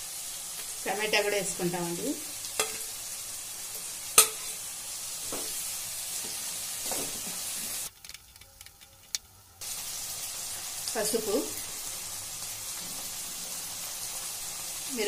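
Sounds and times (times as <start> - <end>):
vegetables sizzling in oil: 0.0 - 7.9, 9.6 - 15.0.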